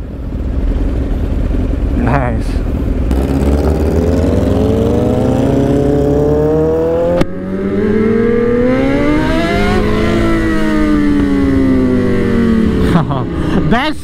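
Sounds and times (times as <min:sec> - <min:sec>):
sport bike accelerating: 0:00.0 - 0:13.7
second sport bike engine: 0:00.0 - 0:14.0.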